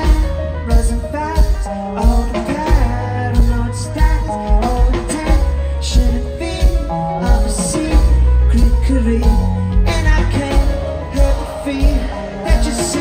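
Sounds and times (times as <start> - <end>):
man singing: 0.0 - 13.0
rock band playing: 0.0 - 13.0.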